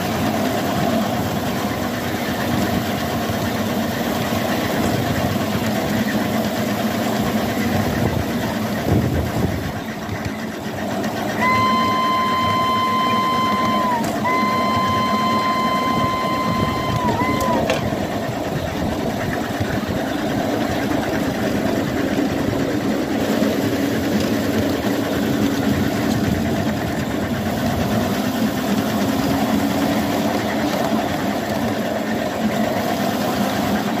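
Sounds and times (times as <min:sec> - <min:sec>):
miniature locomotive running: 0:00.0 - 0:34.0.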